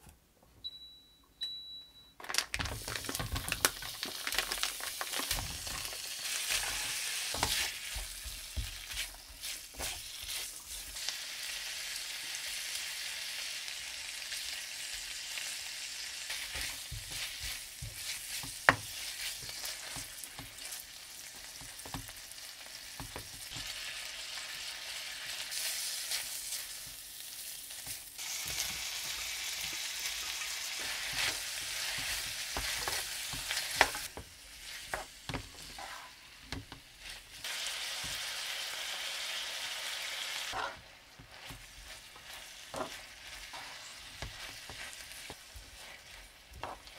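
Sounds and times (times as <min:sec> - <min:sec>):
food sizzling in a frying pan: 0:02.8 - 0:46.9.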